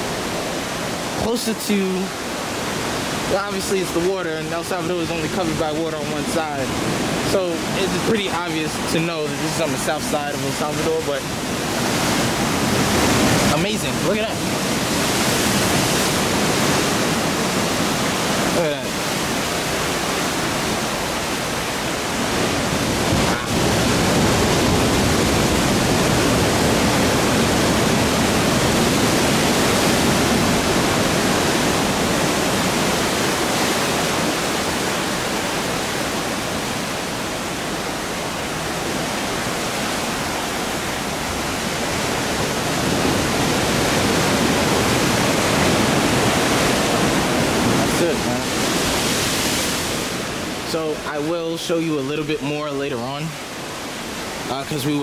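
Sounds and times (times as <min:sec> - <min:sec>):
ocean surf rushing: 0:00.0 - 0:55.0.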